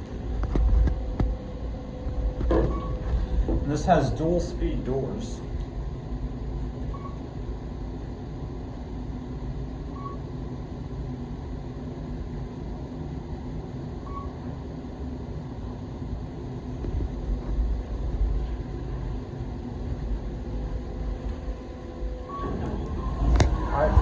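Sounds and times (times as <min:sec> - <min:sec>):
elevator running: 0:00.0 - 0:24.0.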